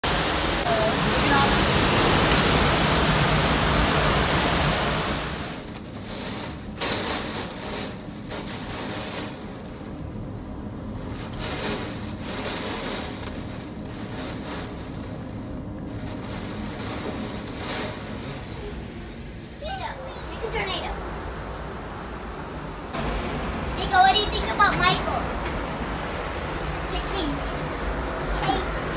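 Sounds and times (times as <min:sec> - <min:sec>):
wind and rain on microphone: 0:00.0 - 0:28.9.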